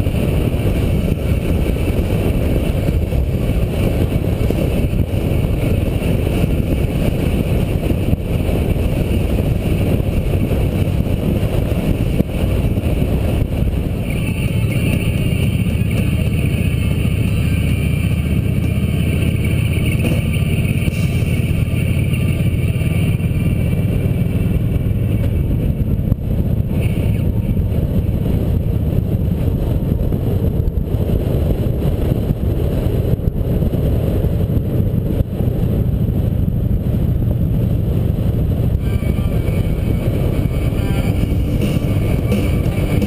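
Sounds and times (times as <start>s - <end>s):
motorcycle engine drone: 0.0s - 43.0s
road and wind noise: 0.0s - 43.0s.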